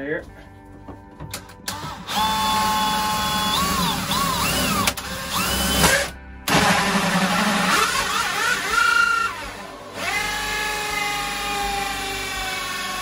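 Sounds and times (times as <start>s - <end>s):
drill hole saw cutting fiberglass: 1.7s - 13.0s.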